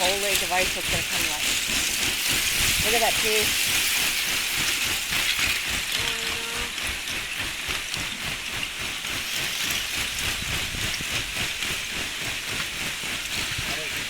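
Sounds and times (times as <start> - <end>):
ice grinding and crackling: 0.0 - 14.0.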